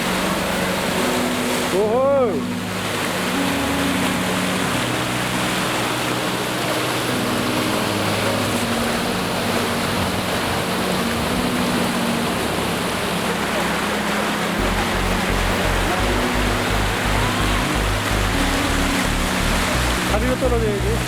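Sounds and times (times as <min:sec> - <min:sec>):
low sustained notes: 0:00.0 - 0:21.0
water rushing over rocks: 0:00.0 - 0:21.0.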